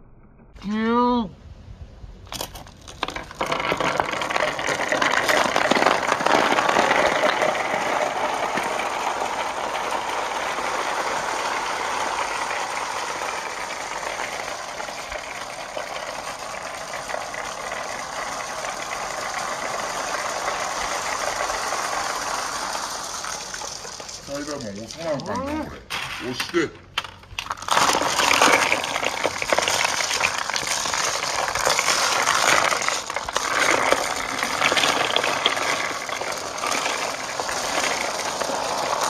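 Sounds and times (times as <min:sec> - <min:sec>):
marbles rolling on a track: 0:02.4 - 0:25.4, 0:27.0 - 0:39.0.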